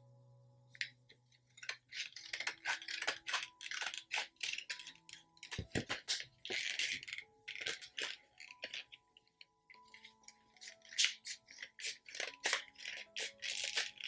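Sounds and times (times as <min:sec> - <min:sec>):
plastic and card crackling: 0:00.7 - 0:14.0
scissors snipping plastic packaging: 0:01.6 - 0:09.0, 0:09.7 - 0:14.0.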